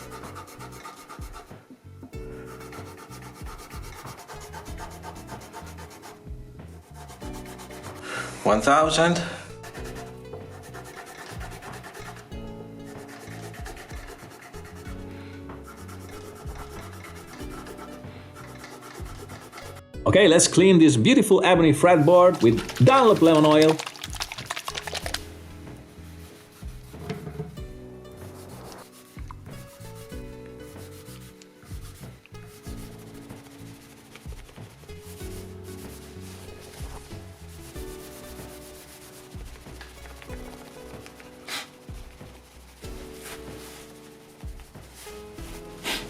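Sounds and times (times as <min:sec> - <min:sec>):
eraser rubbing guitar frets: 0:00.0 - 0:01.6, 0:02.3 - 0:19.8, 0:21.8 - 0:23.9, 0:24.6 - 0:46.0
background music with bass: 0:00.0 - 0:46.0.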